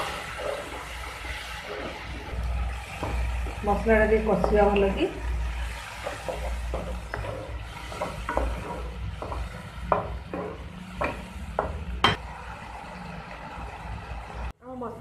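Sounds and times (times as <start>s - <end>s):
paste sizzling: 0.0s - 14.5s.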